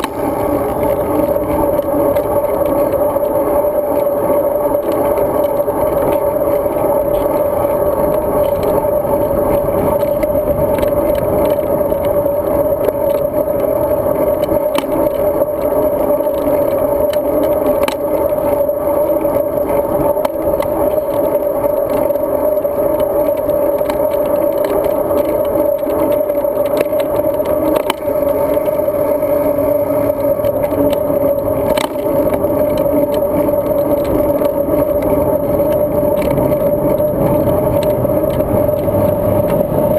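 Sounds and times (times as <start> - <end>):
constant hum: 0.0 - 39.9
road rumble: 0.0 - 39.9
small rattles and clicks: 0.0 - 39.9.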